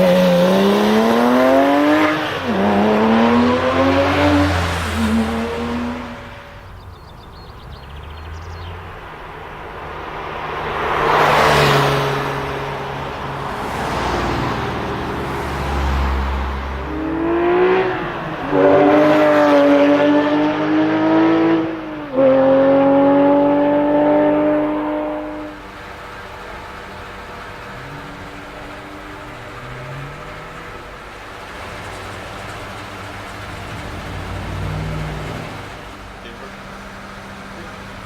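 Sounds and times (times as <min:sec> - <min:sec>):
car passing: 0:00.0 - 0:38.0
sports car engine revving: 0:00.0 - 0:38.0.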